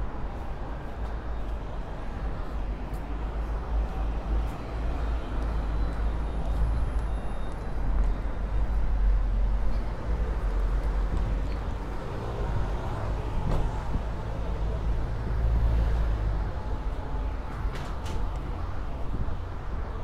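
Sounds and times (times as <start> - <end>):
bus running past: 0.0 - 20.0
road traffic passing: 0.0 - 20.0.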